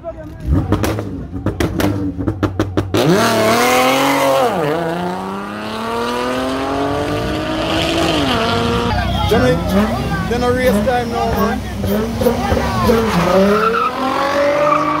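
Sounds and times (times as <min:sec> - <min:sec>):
race car engine revving and accelerating: 0:00.2 - 0:15.0.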